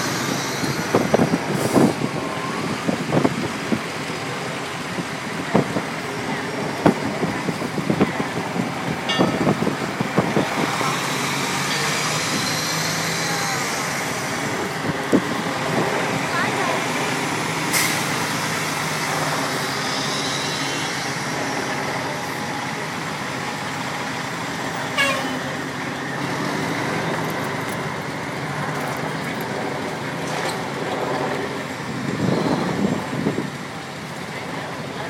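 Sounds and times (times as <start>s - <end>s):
diesel fire engines passing: 0.0s - 35.0s.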